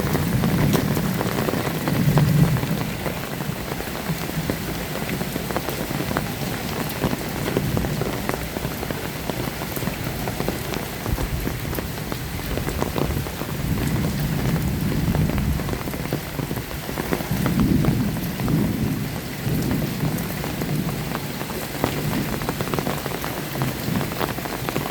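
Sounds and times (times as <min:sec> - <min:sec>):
heavy rain falling: 0:00.0 - 0:24.9
raindrops ticking on surfaces: 0:00.0 - 0:24.9.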